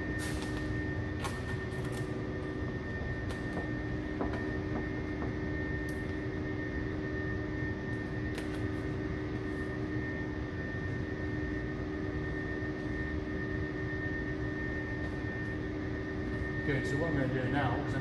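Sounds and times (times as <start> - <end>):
machine drone with whine: 0.0 - 18.0.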